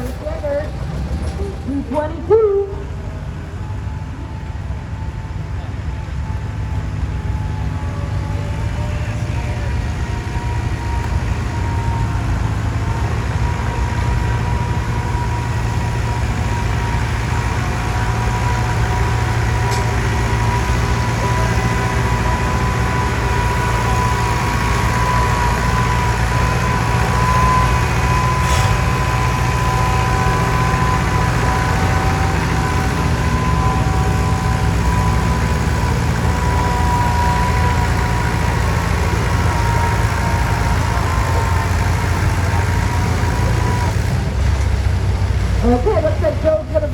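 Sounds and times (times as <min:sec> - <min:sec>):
tractor engine under load: 0:00.0 - 0:46.9.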